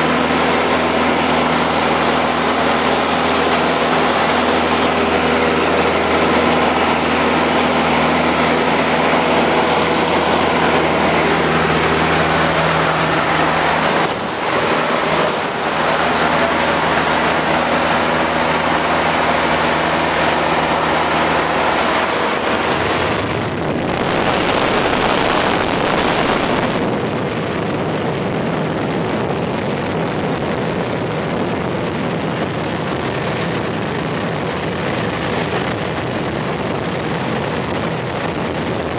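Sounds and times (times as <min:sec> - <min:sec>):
propeller plane engine drone: 0:00.0 - 0:38.9
wind rush: 0:00.0 - 0:38.9.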